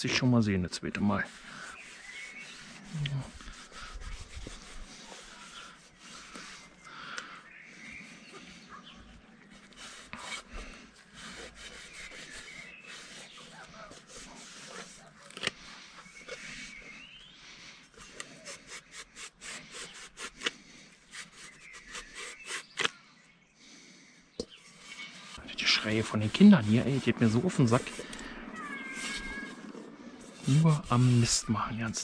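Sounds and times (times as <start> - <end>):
scraping on steel helmet: 0.1 - 6.9, 8.0 - 17.3, 17.9 - 22.9, 24.5 - 32.0.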